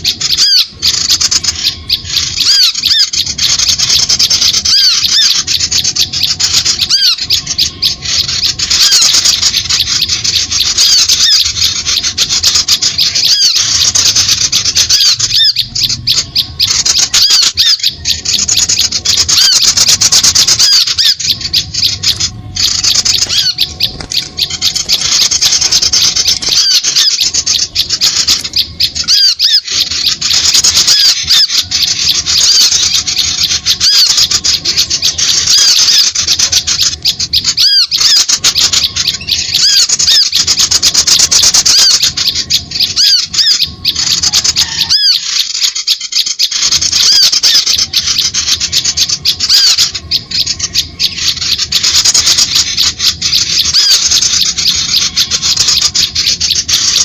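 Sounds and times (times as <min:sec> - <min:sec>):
small birds chattering: 0:00.0 - 0:57.0.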